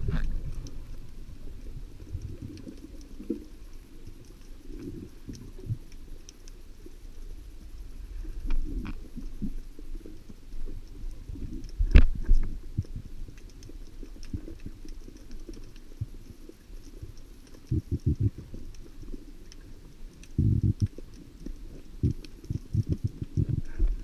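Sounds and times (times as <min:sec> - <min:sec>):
underwater rumbling: 0:00.0 - 0:24.0.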